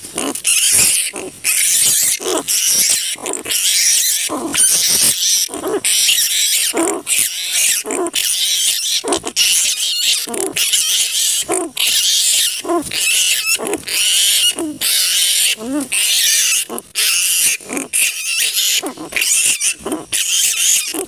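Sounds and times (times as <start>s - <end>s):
flying fox screeching: 0.2s - 21.0s.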